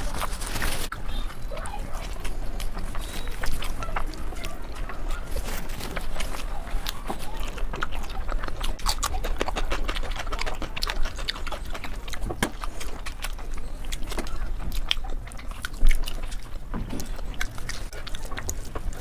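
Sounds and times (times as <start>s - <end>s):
chewing and eating: 0.0s - 19.0s.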